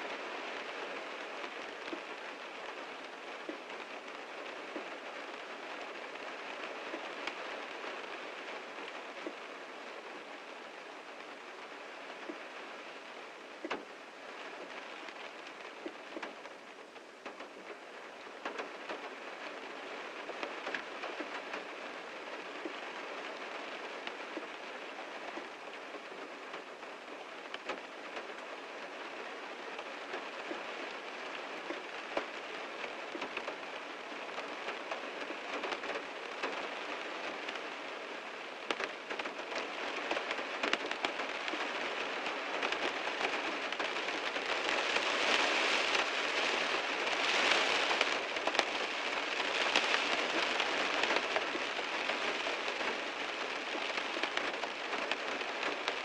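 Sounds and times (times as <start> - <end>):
heavy rain drumming on a car: 0.0 - 56.0.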